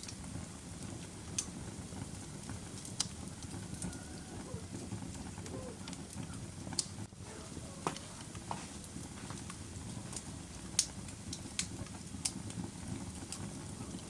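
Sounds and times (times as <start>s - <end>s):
fire pops: 0.0s - 14.0s
wood fire crackling: 0.0s - 14.0s.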